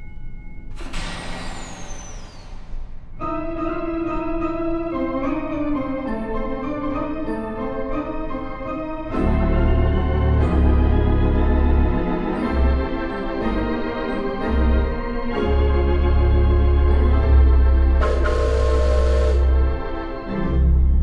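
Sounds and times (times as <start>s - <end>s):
pipe organ chords: 3.2s - 21.0s.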